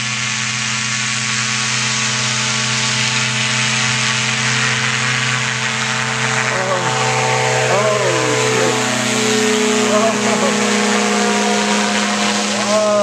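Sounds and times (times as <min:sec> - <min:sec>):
engine and propeller buzzing drone: 0:00.0 - 0:13.0.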